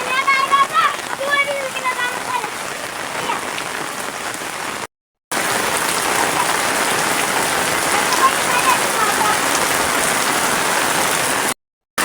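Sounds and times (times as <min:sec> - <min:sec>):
heavy rain falling: 0:00.0 - 0:11.6.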